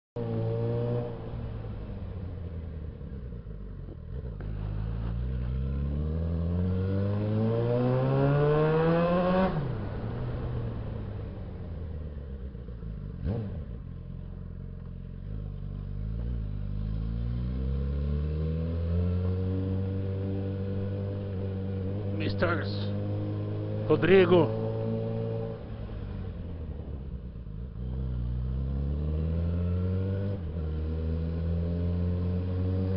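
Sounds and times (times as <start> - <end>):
motorcycle engine revving: 0.2 - 32.9.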